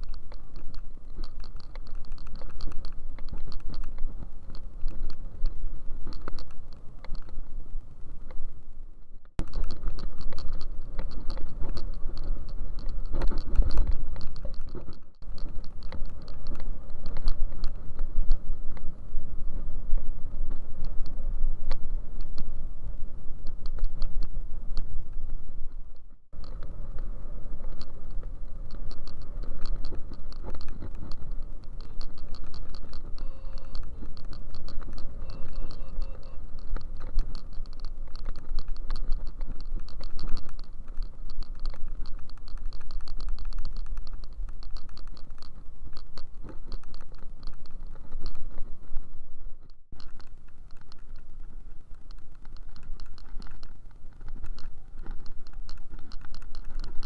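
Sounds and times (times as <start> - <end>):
rattle of small clicks: 0.0 - 8.6, 9.2 - 57.0
wind buffeting microphone: 0.0 - 57.0.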